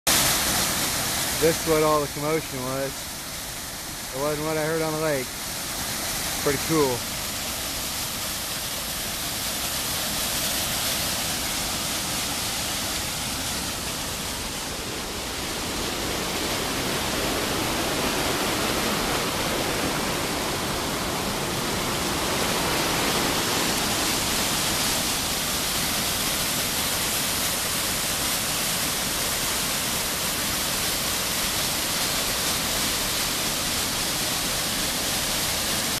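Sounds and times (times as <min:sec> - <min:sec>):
waterfall rushing: 0:00.1 - 0:36.0.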